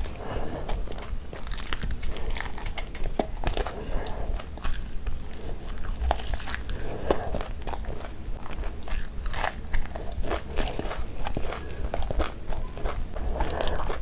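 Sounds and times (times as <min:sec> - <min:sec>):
chewing crunchy fried chicken: 0:00.0 - 0:14.0.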